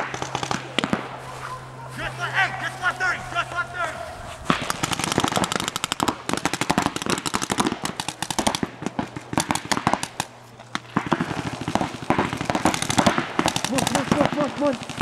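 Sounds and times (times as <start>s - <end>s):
paintball guns firing: 0.0s - 15.0s.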